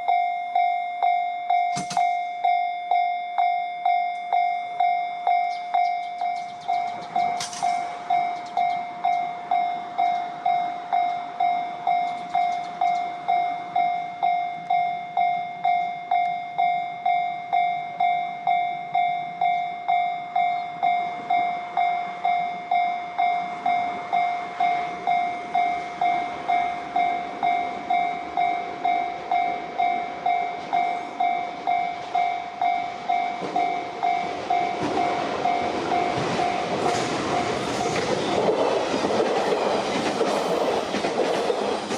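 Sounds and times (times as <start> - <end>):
level crossing warning bell: 0.0 - 41.9
train rumble: 4.7 - 16.3, 17.5 - 41.9.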